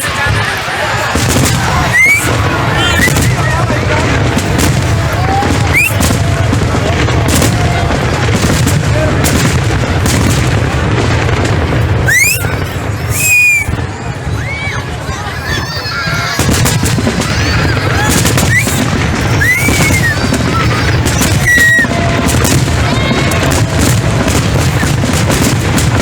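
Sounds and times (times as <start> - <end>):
fireworks bangs and crackles: 0.0 - 26.0
whistling fireworks: 0.0 - 26.0.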